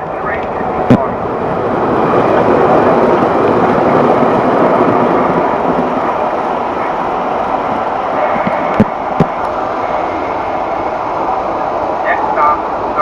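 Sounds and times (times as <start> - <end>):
model train rumbling on track: 0.0 - 13.0.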